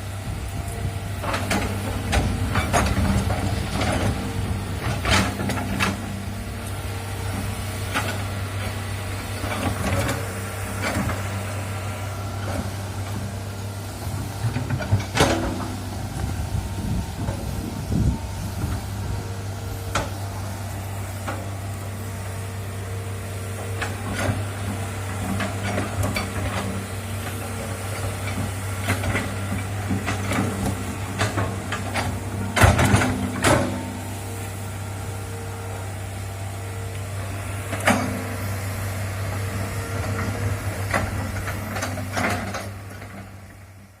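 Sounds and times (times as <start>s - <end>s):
excavator diesel engine: 0.0s - 44.0s.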